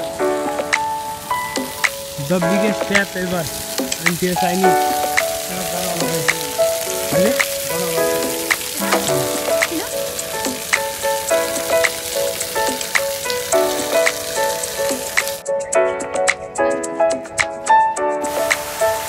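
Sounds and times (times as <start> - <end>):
fountain water splashing into basin: 0.0 - 15.4, 18.3 - 19.0
background music melody: 0.0 - 19.0.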